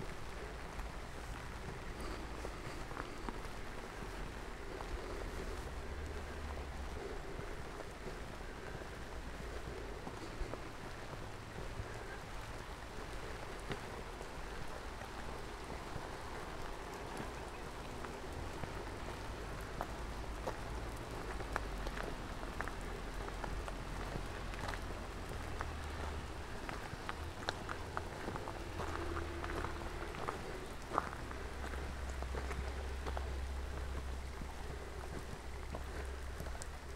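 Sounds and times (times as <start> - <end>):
steady rain falling: 0.0 - 36.9.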